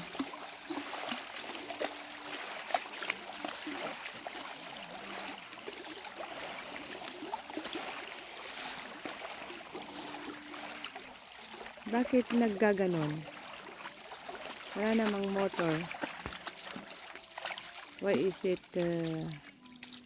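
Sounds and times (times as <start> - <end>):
water lapping and splashing: 0.0 - 20.0.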